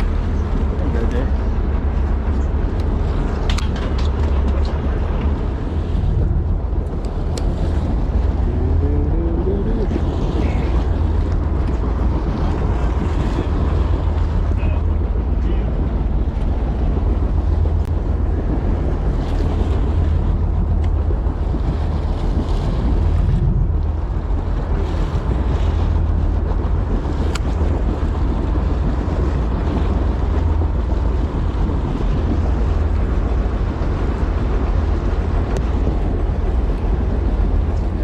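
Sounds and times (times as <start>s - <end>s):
water washing around boat: 0.0s - 38.0s
wind rumbling on microphone: 0.0s - 38.0s.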